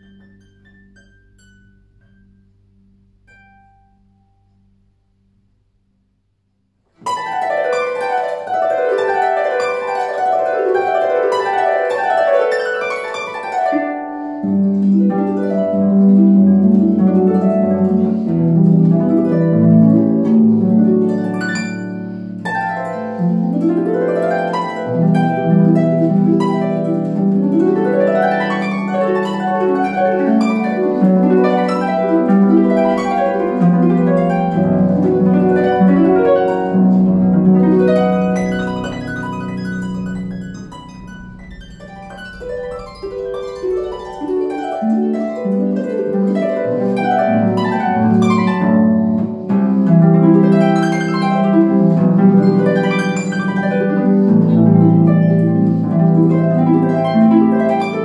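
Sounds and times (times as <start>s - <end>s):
harp plucked notes: 0.0s - 6.0s, 6.9s - 58.0s.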